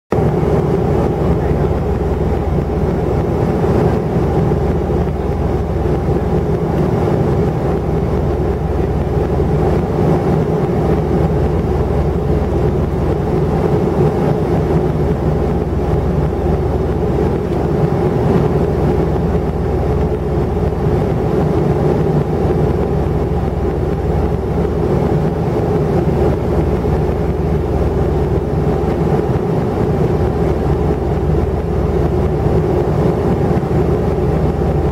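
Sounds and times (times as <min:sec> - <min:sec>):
jet engine drone in cabin: 0:00.1 - 0:34.9.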